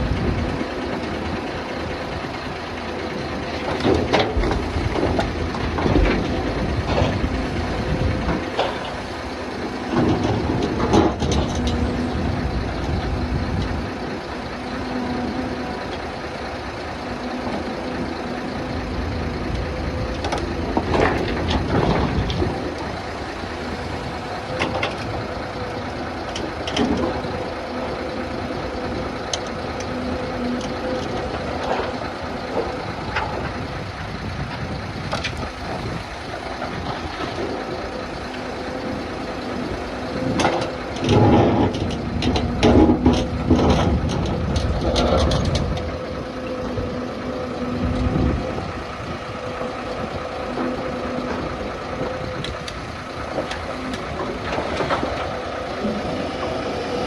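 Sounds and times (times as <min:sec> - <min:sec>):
excavator engine hum: 0:00.0 - 0:57.0
excavator knocks and clanks: 0:00.0 - 0:57.0
heavy low rumble: 0:00.0 - 0:57.0.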